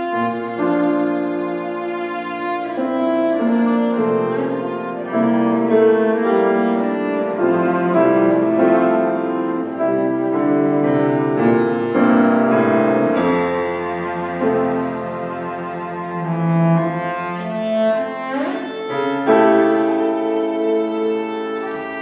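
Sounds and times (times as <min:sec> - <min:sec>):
bowed cello melody: 0:00.0 - 0:22.0
piano accompaniment: 0:00.0 - 0:22.0.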